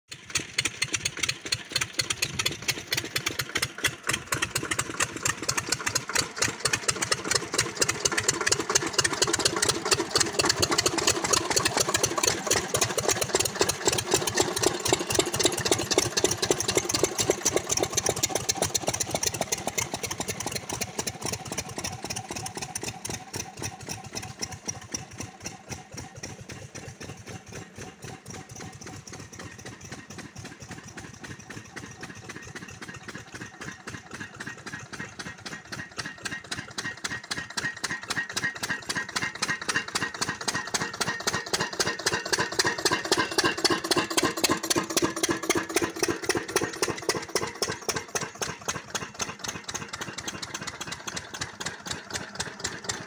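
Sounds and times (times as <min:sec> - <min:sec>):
diesel pump engines chugging: 0:00.1 - 0:53.0.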